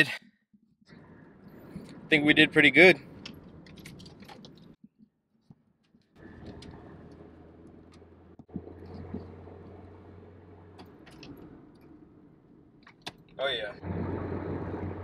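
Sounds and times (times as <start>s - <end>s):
car engine drone: 0.9s - 4.8s, 6.2s - 15.0s
road noise: 0.9s - 4.8s, 5.8s - 15.0s.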